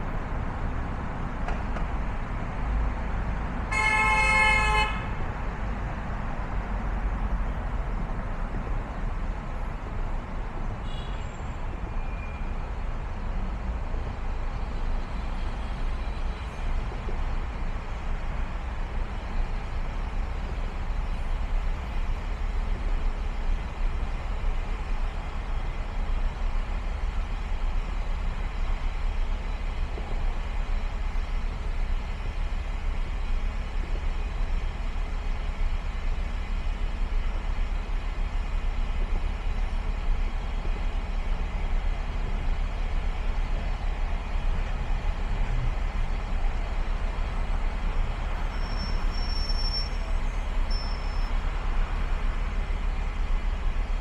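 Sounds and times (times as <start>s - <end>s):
car engine rumble: 0.0s - 54.0s
tyres hissing on road: 0.0s - 54.0s.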